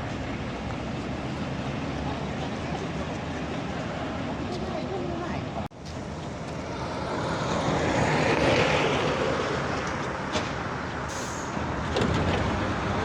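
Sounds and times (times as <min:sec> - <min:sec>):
heavy truck engine under load: 0:00.0 - 0:13.0.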